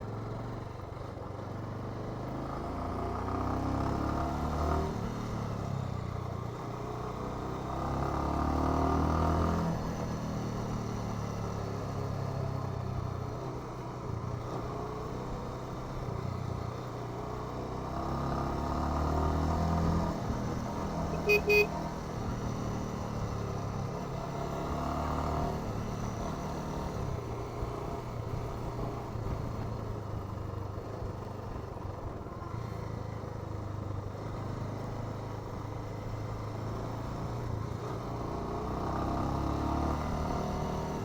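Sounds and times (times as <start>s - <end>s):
motorcycle engine and exhaust: 0.0s - 41.0s.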